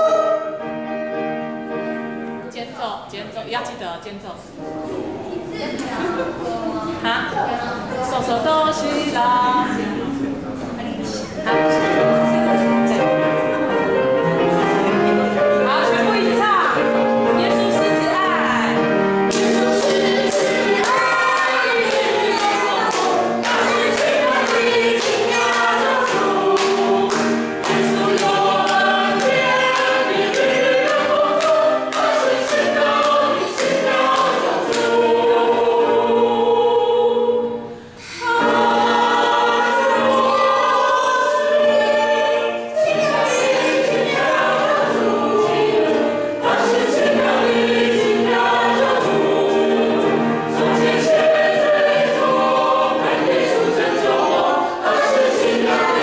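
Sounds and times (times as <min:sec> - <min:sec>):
choir singing a hymn: 0:00.0 - 0:02.4, 0:04.6 - 0:56.0.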